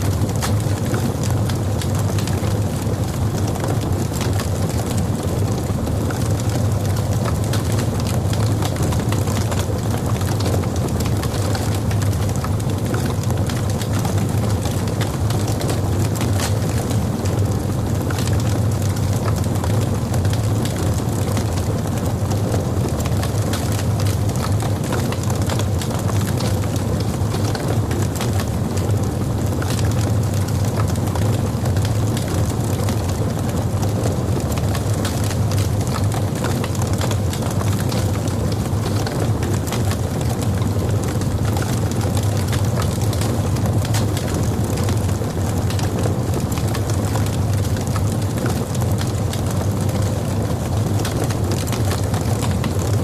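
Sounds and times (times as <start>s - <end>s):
fire flames rumbling: 0.0s - 53.0s
logs crackling and popping: 0.0s - 53.0s.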